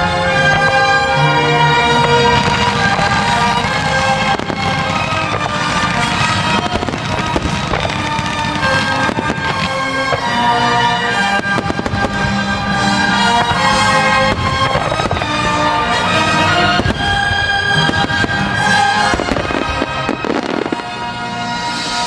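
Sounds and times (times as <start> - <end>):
loud music with held tones: 0.0 - 22.0.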